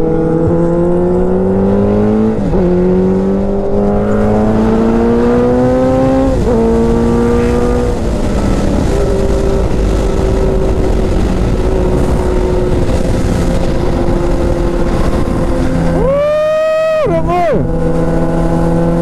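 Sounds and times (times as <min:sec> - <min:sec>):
motorcycle engine at high revs: 0:00.0 - 0:16.0, 0:17.6 - 0:19.0.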